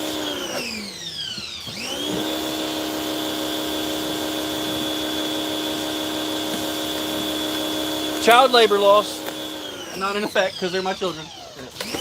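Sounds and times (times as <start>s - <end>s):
pressure washer motor humming: 0.0s - 12.0s.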